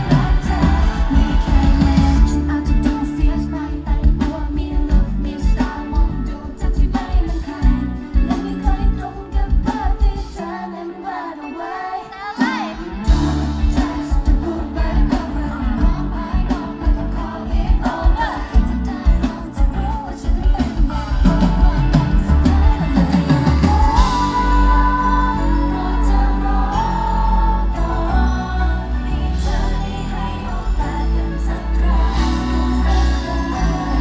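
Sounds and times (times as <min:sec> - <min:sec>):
female group singing: 0:00.0 - 0:34.0
pop song over loudspeakers: 0:00.0 - 0:34.0.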